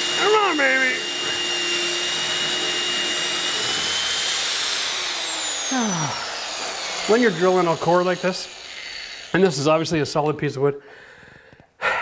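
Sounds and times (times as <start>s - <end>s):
drill motor whining: 0.0s - 10.2s.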